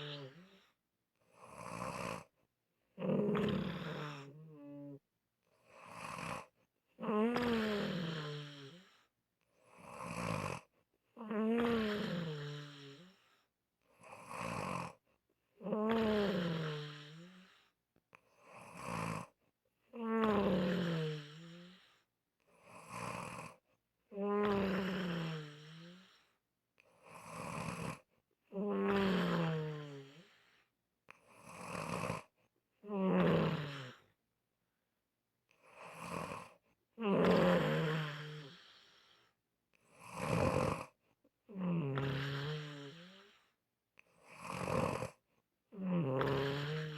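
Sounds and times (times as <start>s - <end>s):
person snoring: 0.0s - 2.3s, 3.0s - 5.0s, 5.6s - 15.0s, 15.6s - 17.7s, 18.3s - 19.4s, 20.0s - 34.2s, 35.5s - 43.5s, 44.2s - 46.9s.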